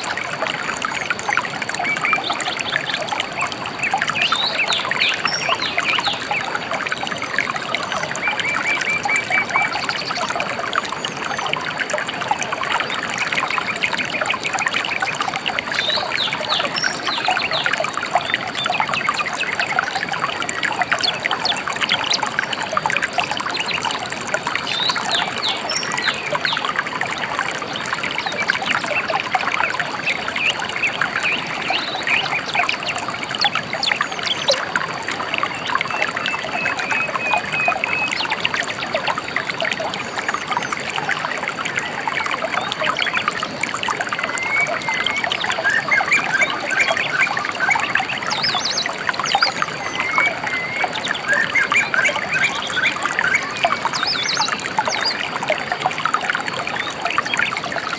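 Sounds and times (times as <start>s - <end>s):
river trickling and splashing: 0.0s - 57.9s
small birds chirping: 0.8s - 40.0s, 42.5s - 55.7s.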